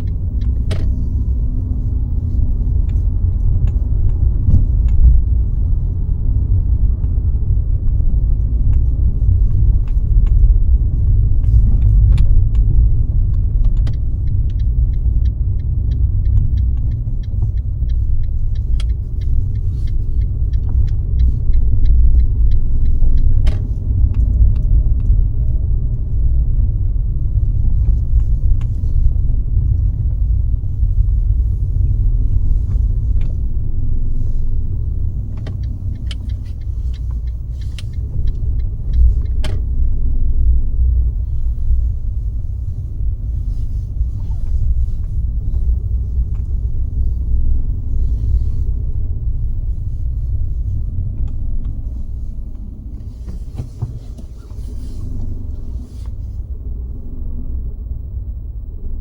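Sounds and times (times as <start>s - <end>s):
small clicks and rattles: 0.0s - 48.9s
car engine and tyres rumbling: 0.0s - 59.0s.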